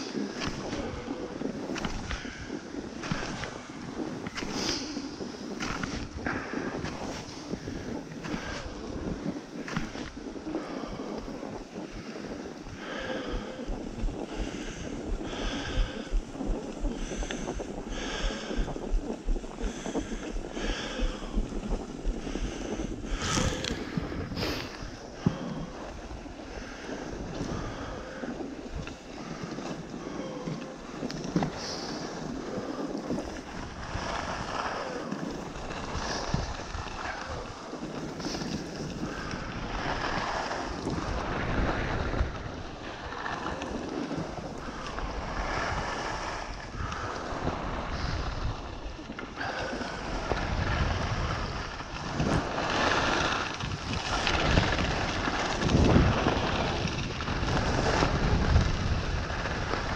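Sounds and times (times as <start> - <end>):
skis hissing over snow: 0.0 - 59.9
wind buffeting microphone: 0.0 - 59.9.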